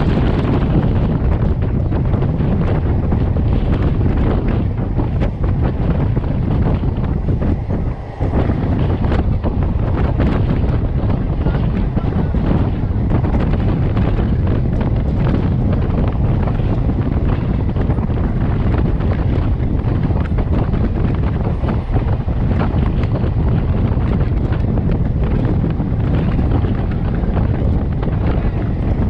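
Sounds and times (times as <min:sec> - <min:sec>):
train rumbling on rails: 0:00.0 - 0:29.0
wind buffeting microphone: 0:00.0 - 0:29.0.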